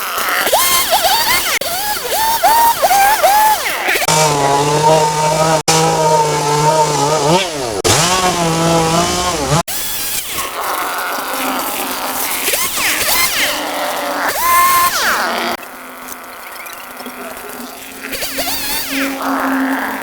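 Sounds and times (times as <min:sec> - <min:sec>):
power tool engine running fast: 0:00.0 - 0:20.0.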